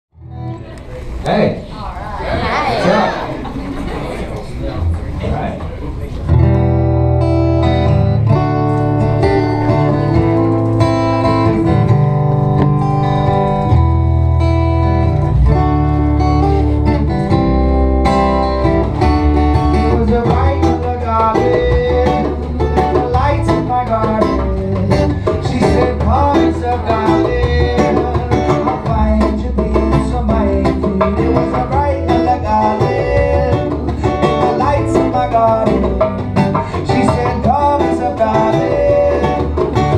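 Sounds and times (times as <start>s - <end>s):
acoustic guitars playing: 0.1s - 39.9s.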